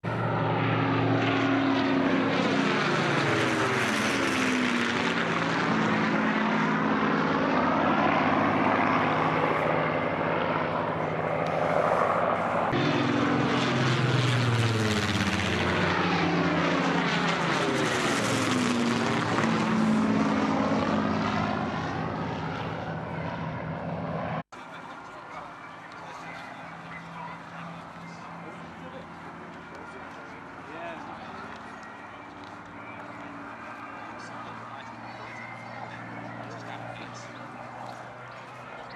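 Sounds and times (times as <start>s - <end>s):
propeller planes droning overhead: 0.0s - 38.9s.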